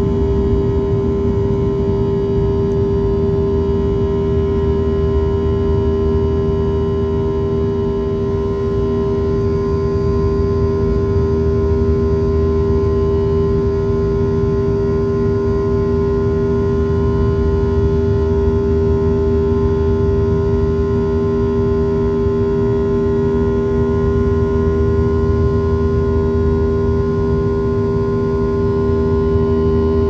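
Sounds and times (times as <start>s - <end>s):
jet engine drone in cabin: 0.0s - 30.0s.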